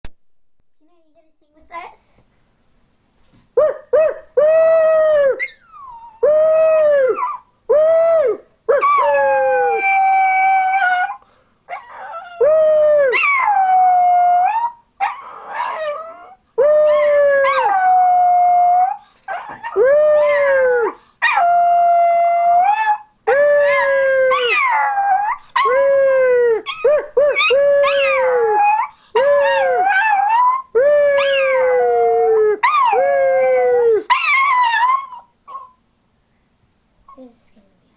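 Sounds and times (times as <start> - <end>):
small dog howling: 3.6 - 35.8.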